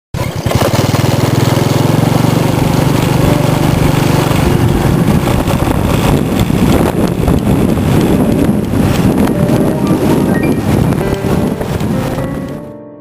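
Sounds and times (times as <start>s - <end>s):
small engine running: 0.2s - 12.6s.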